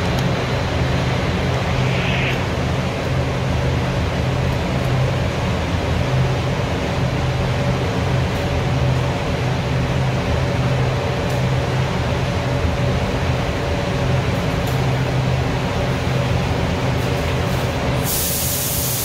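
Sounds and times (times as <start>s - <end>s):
ventilation air rushing and humming: 0.0s - 19.0s.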